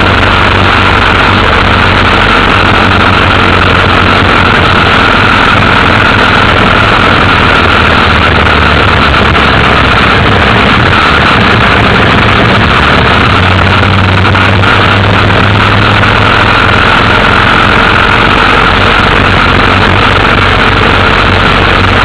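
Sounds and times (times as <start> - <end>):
motorcycle engine running: 0.0 - 22.0
rushing noise: 0.0 - 22.0.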